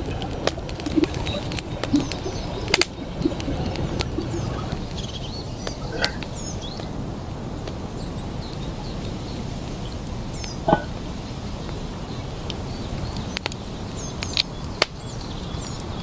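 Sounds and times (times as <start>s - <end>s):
small birds chirping: 0.0s - 16.0s
steady rushing noise: 0.0s - 16.0s.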